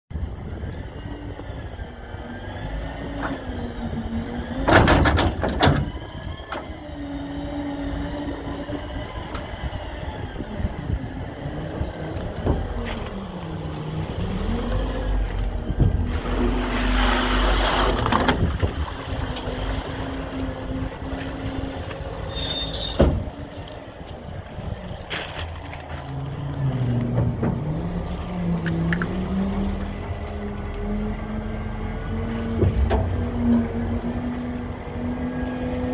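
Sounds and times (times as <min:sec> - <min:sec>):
garbage truck engine and hydraulics hum: 0:00.1 - 0:35.9.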